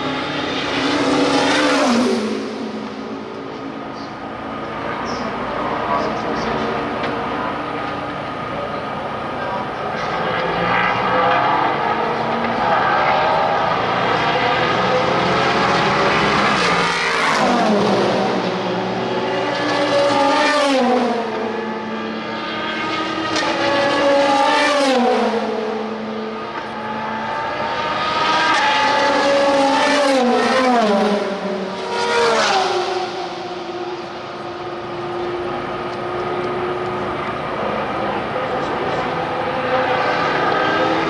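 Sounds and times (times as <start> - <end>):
race car engines passing: 0.0 - 41.0.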